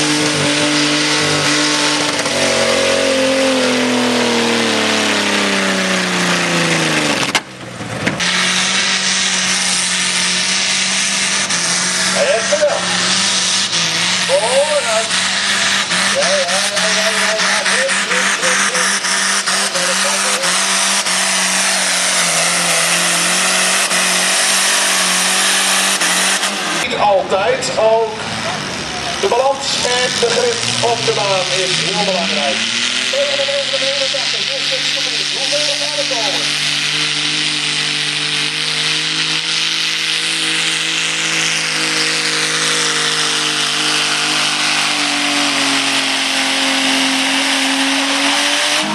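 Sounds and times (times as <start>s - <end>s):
engine running flat out: 0.0s - 48.9s.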